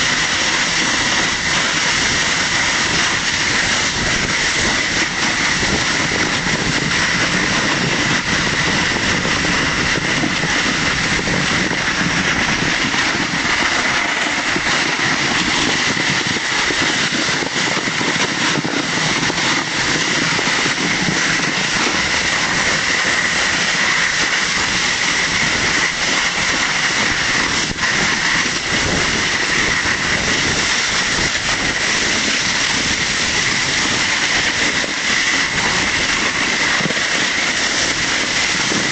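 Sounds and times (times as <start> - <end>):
sled scraping over snow: 0.0 - 38.9.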